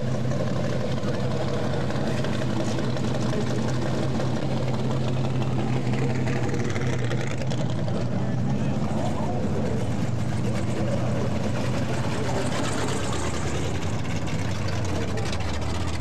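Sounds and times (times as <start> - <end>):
stock car engines idling: 0.0 - 16.0.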